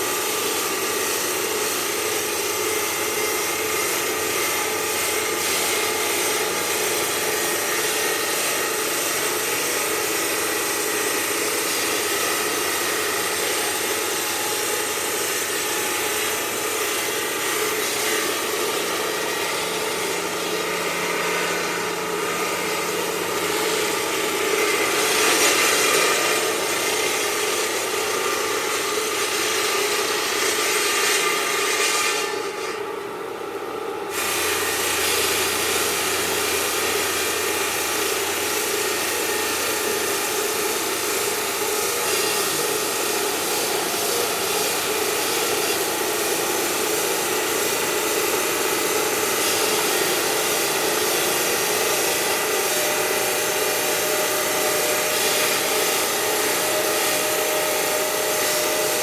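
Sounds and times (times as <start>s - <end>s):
machinery grinding stone: 0.0s - 59.0s.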